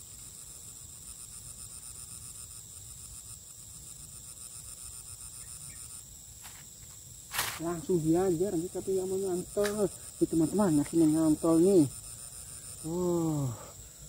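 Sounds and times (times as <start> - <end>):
insects buzzing and trilling: 0.0 - 14.0.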